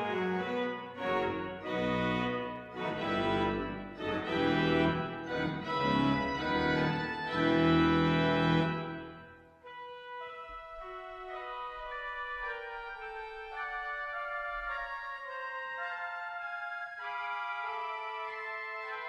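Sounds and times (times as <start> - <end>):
pipe organ playing chords: 0.0 - 19.0.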